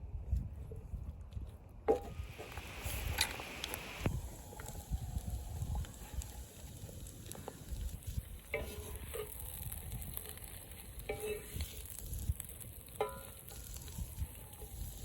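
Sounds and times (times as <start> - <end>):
meat sizzling in a pan: 2.3 - 15.0.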